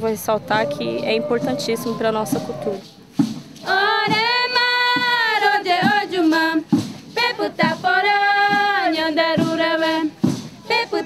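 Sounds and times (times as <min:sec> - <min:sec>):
women singing a chant: 0:00.0 - 0:02.8, 0:03.6 - 0:11.0.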